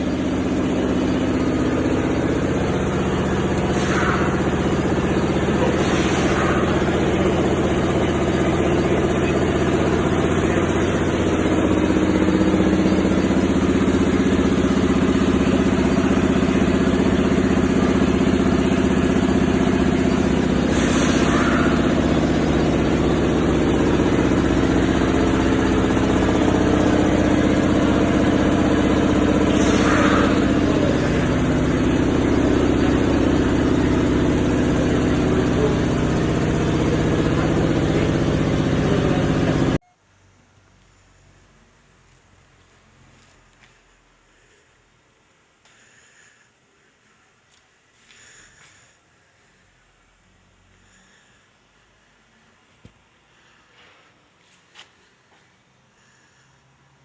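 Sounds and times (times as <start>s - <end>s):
diesel truck engine idling: 0.0s - 39.8s, 40.4s - 54.4s.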